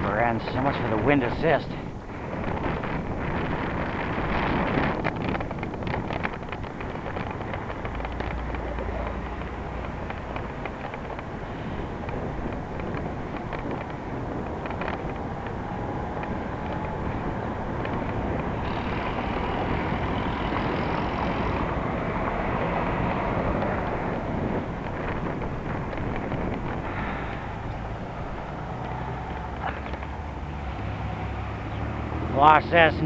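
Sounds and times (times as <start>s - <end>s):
road traffic: 0.0s - 33.0s
wind noise: 0.0s - 33.0s
bicycle clicks and rattles: 2.3s - 30.7s.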